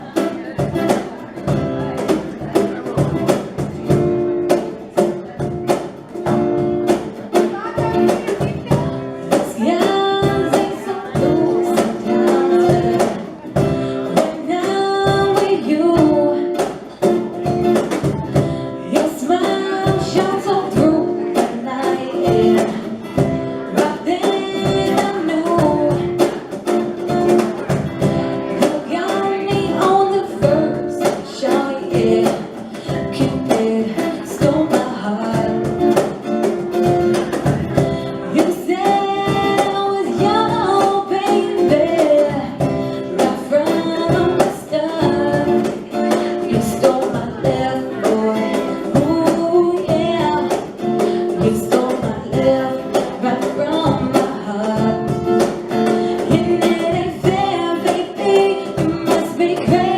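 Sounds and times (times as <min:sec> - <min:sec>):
live reggae song with singing: 0:00.0 - 0:59.9.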